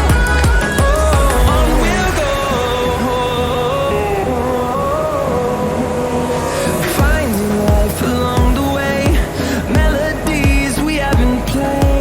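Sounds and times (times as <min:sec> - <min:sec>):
electronic music with sliding bass: 0:00.0 - 0:12.0.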